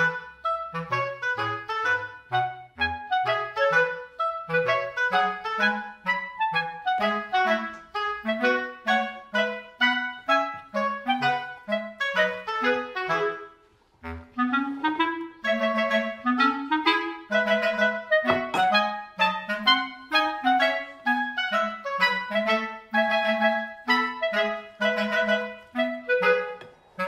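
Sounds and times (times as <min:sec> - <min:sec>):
bouncy background music: 0:00.0 - 0:26.7.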